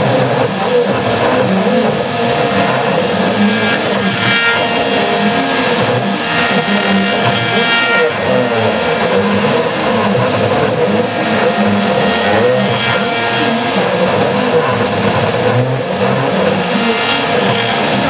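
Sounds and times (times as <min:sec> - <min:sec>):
router spindle high whine: 0:00.0 - 0:18.0
stepper motors whine: 0:00.0 - 0:18.0.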